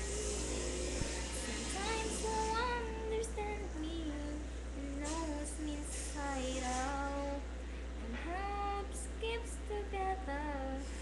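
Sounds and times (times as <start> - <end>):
girl singing slow melody: 0.0 - 11.0
steady low hum: 0.0 - 11.0.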